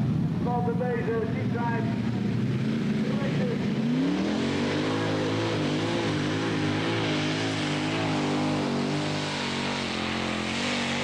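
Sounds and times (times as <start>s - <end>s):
tractor engine at high power: 0.0s - 11.0s.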